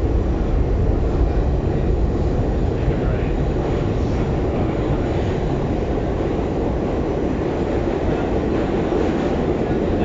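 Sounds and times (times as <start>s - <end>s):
subway train rumbling in tunnel: 0.0s - 10.0s.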